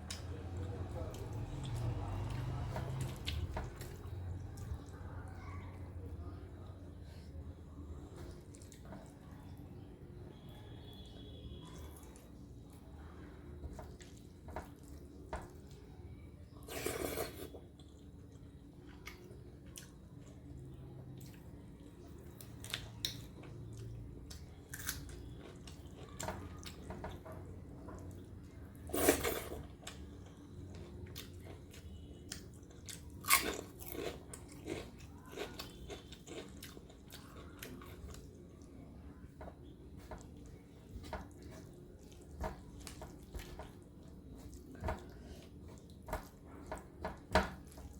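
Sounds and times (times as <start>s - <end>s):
chewing food: 0.0s - 47.9s.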